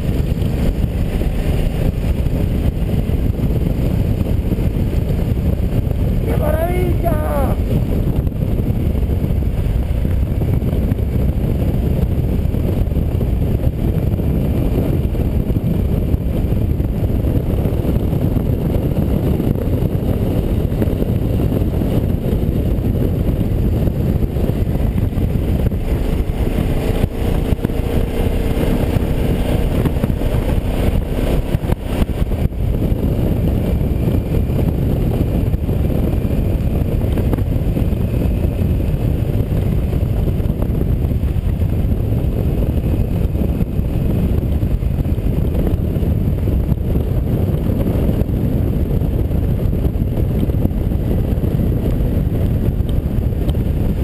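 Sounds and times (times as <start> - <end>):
motorcycle engine cruising: 0.0 - 54.0
wind rushing over microphone: 0.0 - 54.0.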